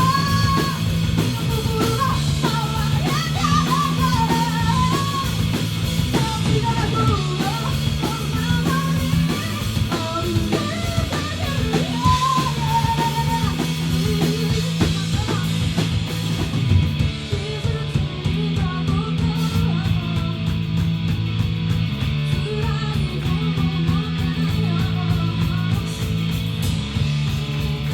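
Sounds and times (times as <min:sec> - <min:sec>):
drum kit: 0:00.0 - 0:27.9
electric guitar: 0:00.0 - 0:27.9
rock band playing live: 0:00.0 - 0:27.9.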